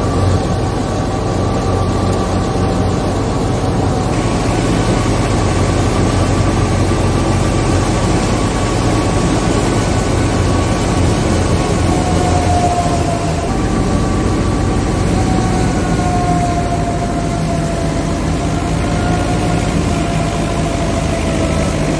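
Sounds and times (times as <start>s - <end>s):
high mechanical whine: 0.0s - 21.9s
low engine drone: 0.0s - 21.9s.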